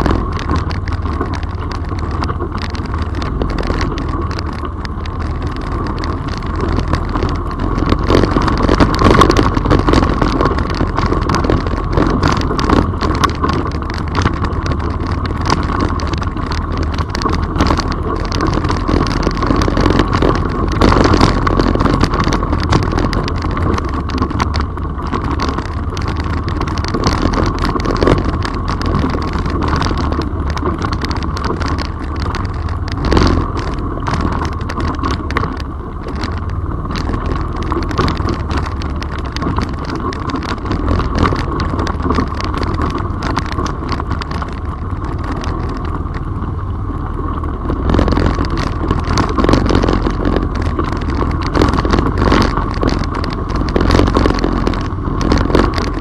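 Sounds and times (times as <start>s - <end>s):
knocks and rattles from bumps: 0.0s - 56.0s
quad engine running: 0.0s - 56.0s.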